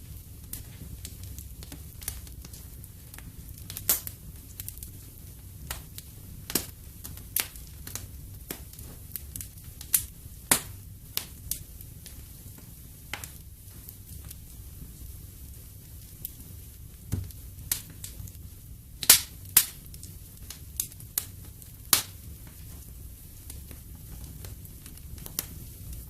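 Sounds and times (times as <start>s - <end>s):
sharp fire pops and snaps: 0.0s - 26.0s
wood fire crackling: 0.0s - 26.0s.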